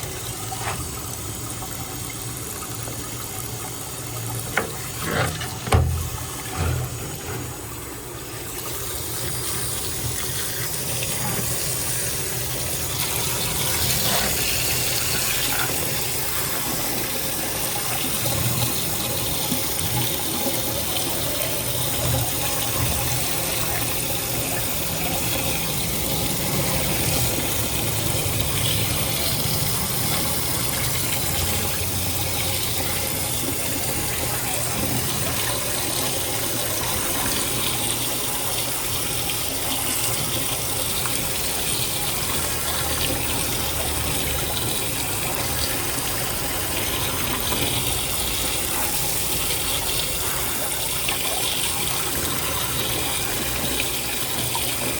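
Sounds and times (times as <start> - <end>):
water running: 0.0 - 54.9.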